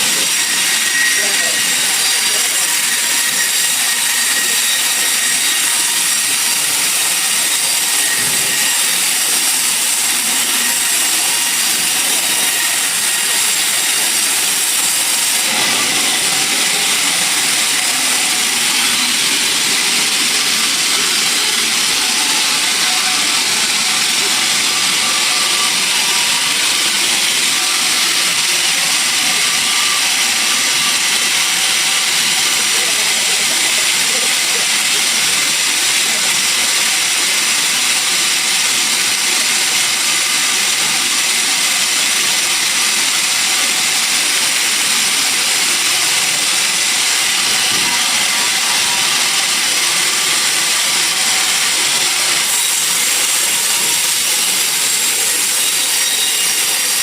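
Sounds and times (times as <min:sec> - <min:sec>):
sawmill machinery hissing and whining: 0:00.0 - 0:57.0.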